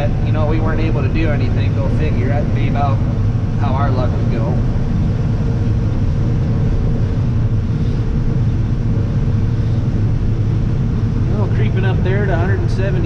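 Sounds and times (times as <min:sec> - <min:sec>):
combine harvester engine rumble: 0:00.0 - 0:13.0
steady machine hum: 0:00.0 - 0:13.0.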